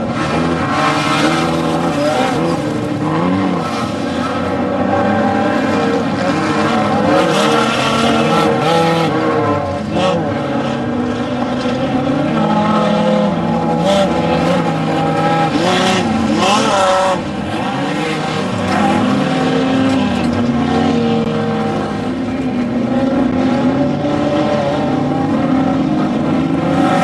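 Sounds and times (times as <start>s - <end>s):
off-road vehicle engines revving: 0.0s - 27.0s.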